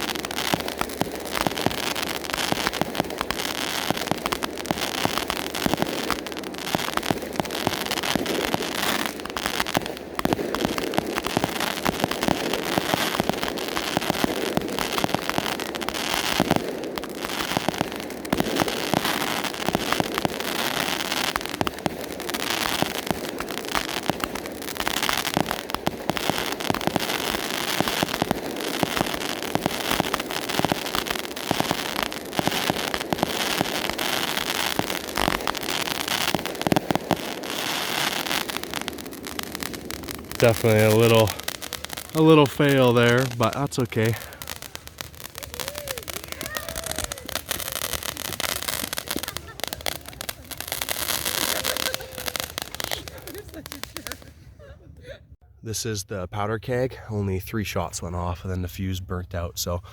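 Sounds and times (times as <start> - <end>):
fireworks popping and crackling: 0.0 - 59.9.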